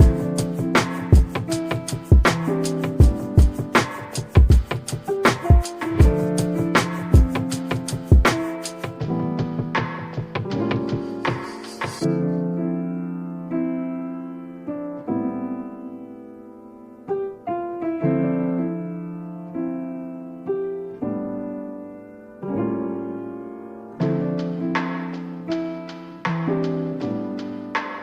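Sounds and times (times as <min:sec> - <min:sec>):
slow piano music: 0:00.0 - 0:28.0.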